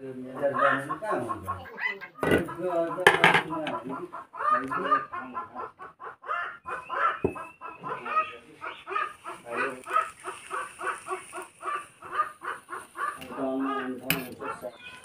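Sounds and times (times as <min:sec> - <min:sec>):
fowl clucking: 0:00.0 - 0:15.0.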